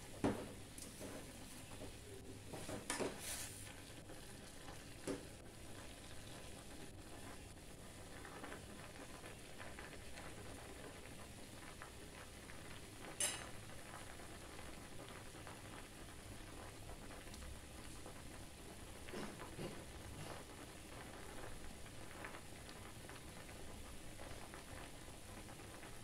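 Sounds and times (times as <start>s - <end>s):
boiling pot hiss: 0.0s - 26.0s.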